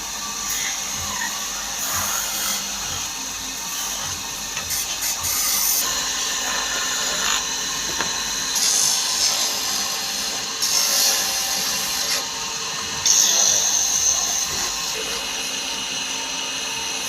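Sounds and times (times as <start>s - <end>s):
power tool cutting wood: 0.0s - 17.0s.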